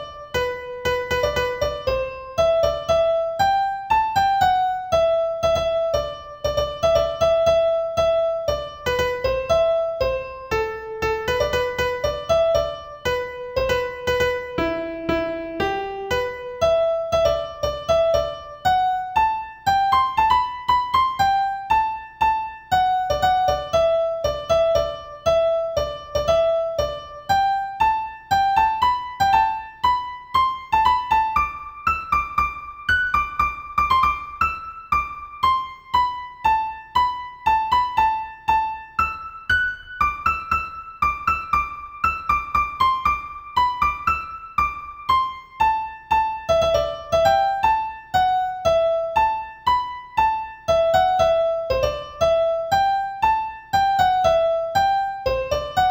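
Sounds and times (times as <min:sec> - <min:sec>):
piano-style keyboard melody: 0:00.0 - 0:55.9.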